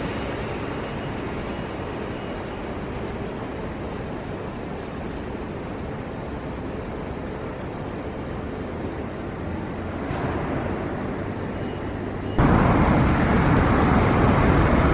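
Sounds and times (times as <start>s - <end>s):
train wheels rumbling on rail: 0.0s - 14.9s.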